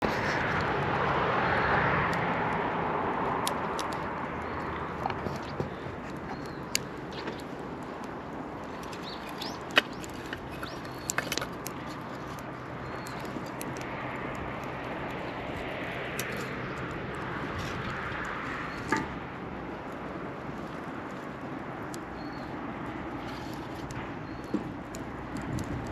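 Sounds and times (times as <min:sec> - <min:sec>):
wood fire crackling: 0:00.1 - 0:25.9
fire popping: 0:02.1 - 0:25.9.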